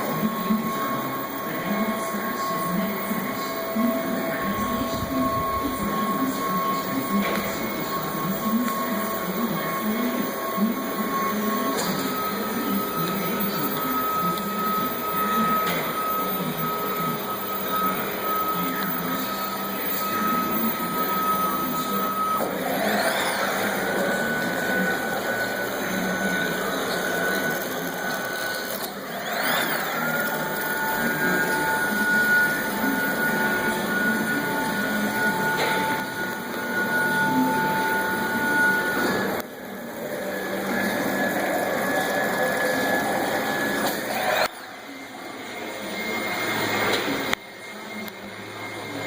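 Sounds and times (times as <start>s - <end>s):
rattly running noise: 0.0s - 44.8s
motor whine: 0.0s - 49.0s.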